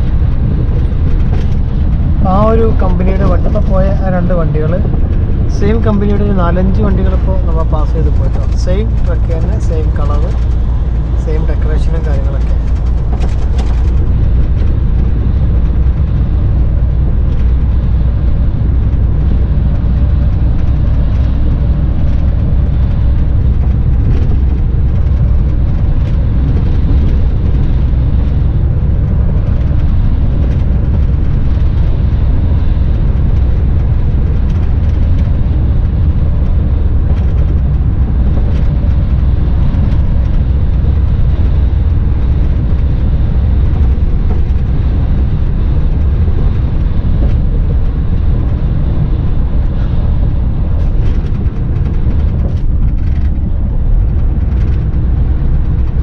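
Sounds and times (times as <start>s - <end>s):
diesel truck engine running: 0.0s - 56.0s
tyre and road noise: 0.0s - 56.0s.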